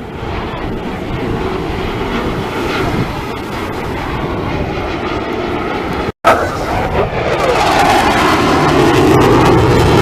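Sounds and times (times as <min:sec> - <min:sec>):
aircraft engine roar: 0:00.0 - 0:10.0.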